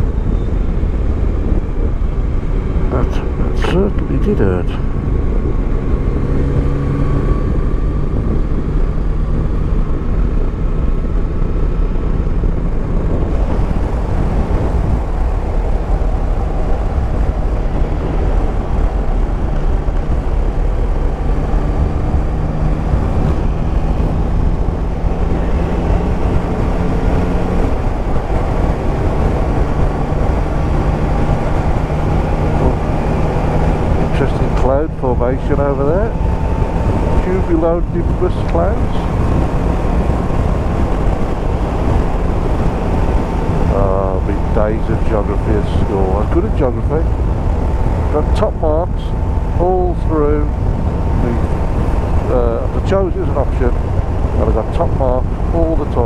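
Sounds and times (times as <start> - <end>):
heavy wind rumble: 0.0 - 56.0.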